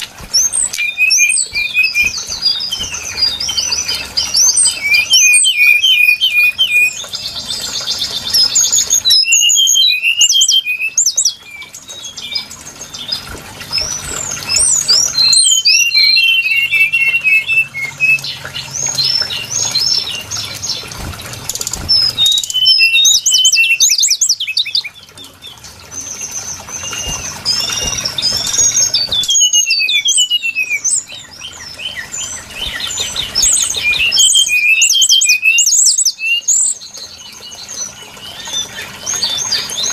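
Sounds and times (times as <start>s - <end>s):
bird chirps trills and whistles: 0.0s - 39.9s.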